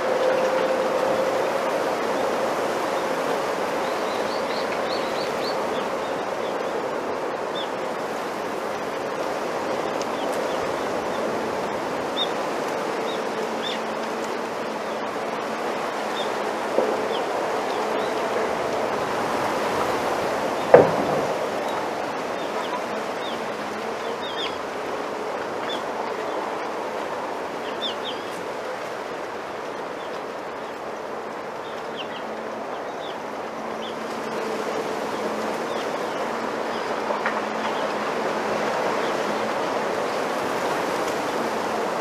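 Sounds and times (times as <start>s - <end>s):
leaves rustling in wind: 0.0s - 42.0s.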